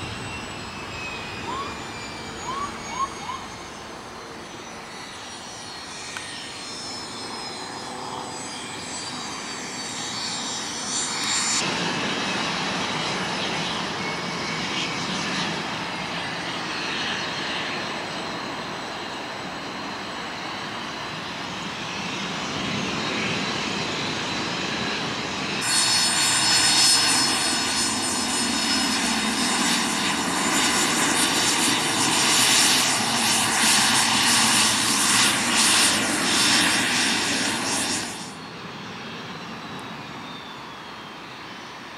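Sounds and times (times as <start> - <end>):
falling jet whine: 0.0 - 41.9
jet engine whine taxiing: 0.0 - 41.9
jet engines roaring: 0.0 - 41.9.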